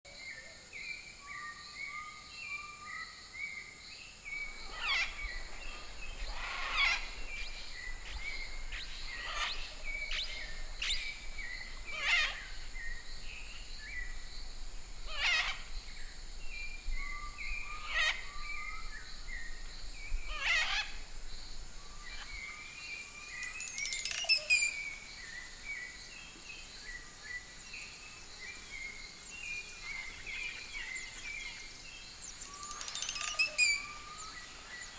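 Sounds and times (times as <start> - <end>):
high insect drone: 3.6 - 34.9.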